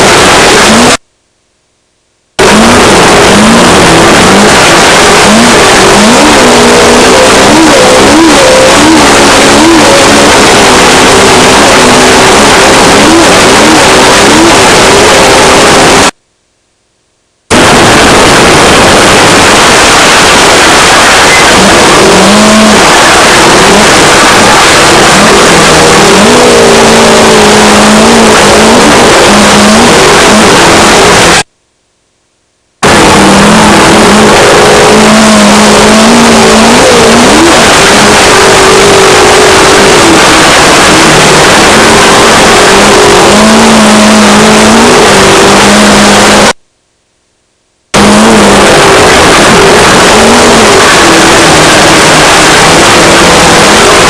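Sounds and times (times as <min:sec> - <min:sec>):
race car engine revving: 0:00.0 - 0:01.0, 0:02.4 - 0:16.2, 0:17.5 - 0:31.5, 0:32.8 - 0:46.6, 0:47.9 - 0:54.0
loud rush of noise: 0:00.0 - 0:01.1, 0:02.2 - 0:16.2, 0:17.3 - 0:31.5, 0:32.7 - 0:46.7, 0:47.8 - 0:54.0.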